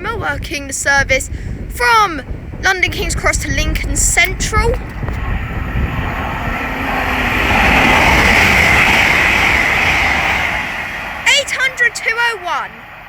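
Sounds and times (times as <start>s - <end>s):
rail noise: 0.0s - 13.0s
train passing: 0.0s - 13.0s.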